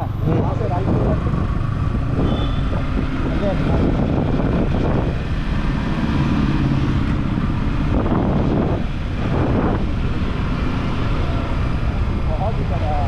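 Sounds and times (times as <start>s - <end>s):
wind noise on microphone: 0.0s - 12.3s
motorcycle engine running: 0.0s - 13.0s.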